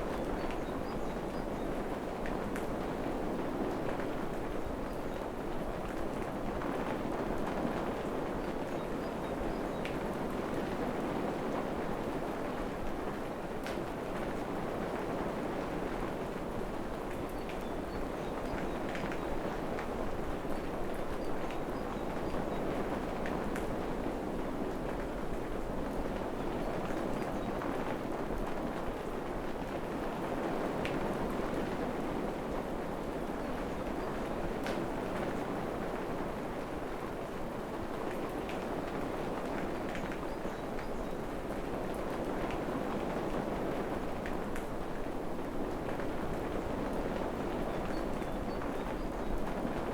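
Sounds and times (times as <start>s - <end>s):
rain falling on foliage: 0.0s - 49.9s.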